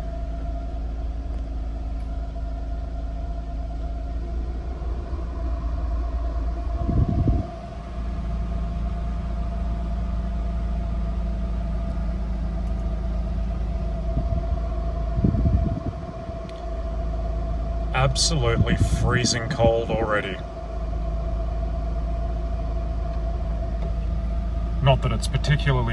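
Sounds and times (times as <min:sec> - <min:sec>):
air conditioning running: 0:00.0 - 0:25.9
car engine idling: 0:00.0 - 0:25.9.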